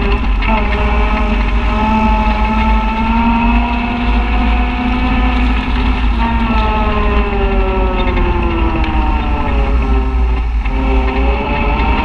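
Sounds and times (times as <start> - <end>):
low rumble: 0.0 - 12.0
utv engine running: 0.0 - 12.0.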